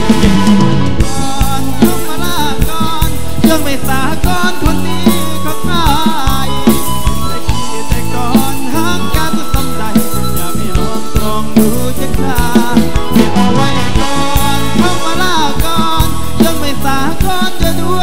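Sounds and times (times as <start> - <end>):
band music: 0.0 - 18.0
bass: 0.0 - 18.0
pitch-bending lead melody: 0.0 - 18.0
steady drum beat: 0.0 - 18.0.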